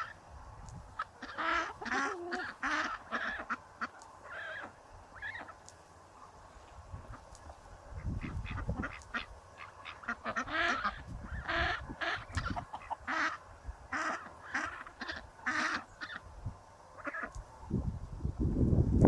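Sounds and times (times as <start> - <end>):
poultry calling: 0.0 - 0.2, 0.9 - 6.4, 7.0 - 16.3, 17.0 - 17.4.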